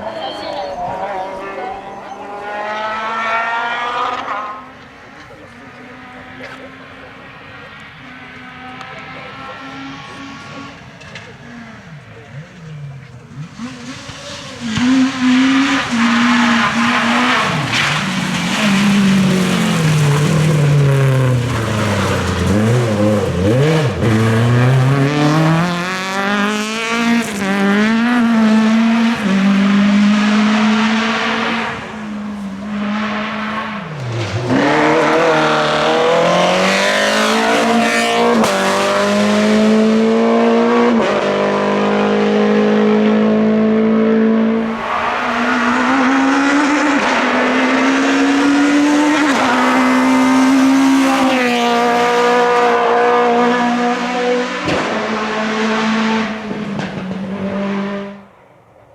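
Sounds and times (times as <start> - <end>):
rally car engines revving: 0.0 - 58.4.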